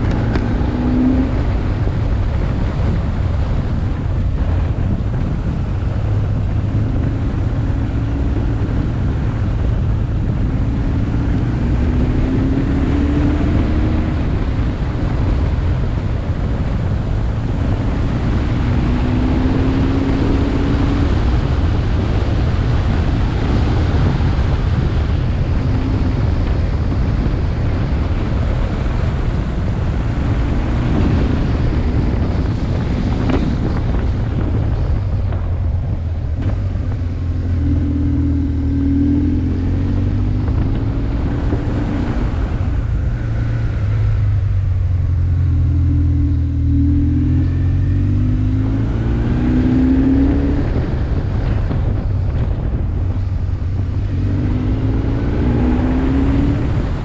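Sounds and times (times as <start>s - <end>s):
motorcycle engine accelerating: 0.0s - 57.0s
wind buffeting on helmet camera: 0.0s - 57.0s.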